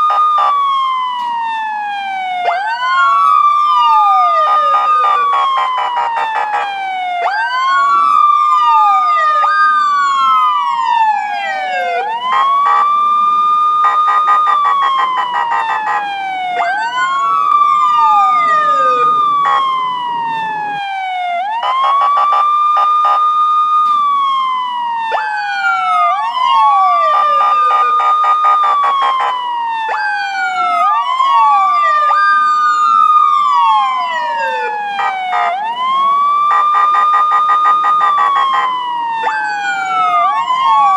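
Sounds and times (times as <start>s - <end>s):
police siren wailing: 0.0s - 40.9s.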